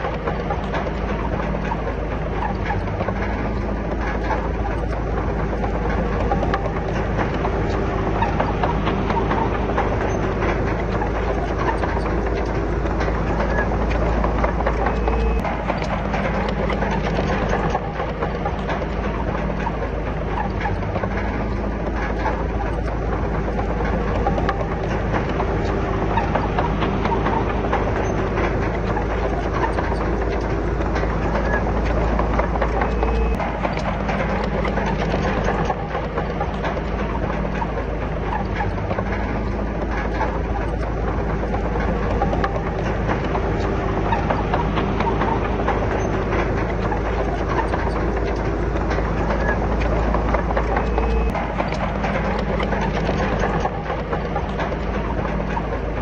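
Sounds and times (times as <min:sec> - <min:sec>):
diesel earthmoving machine running: 0:00.0 - 0:56.0
metallic clicks and knocks: 0:00.0 - 0:56.0.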